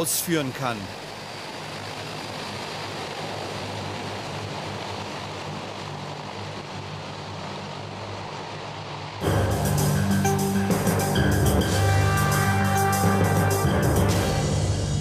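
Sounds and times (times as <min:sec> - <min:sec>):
low droning hum: 0:00.0 - 0:15.0
turboprop engines rushing: 0:00.0 - 0:15.0.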